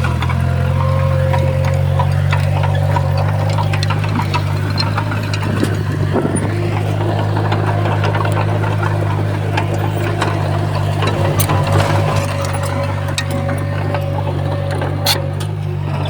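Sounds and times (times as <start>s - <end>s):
bulldozer diesel engine running: 0.0s - 16.0s
clicks and clanks: 0.0s - 16.0s.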